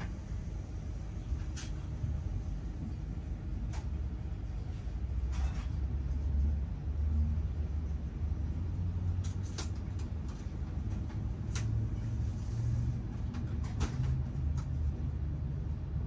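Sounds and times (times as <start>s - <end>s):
train carriage interior rumble: 0.0s - 16.0s.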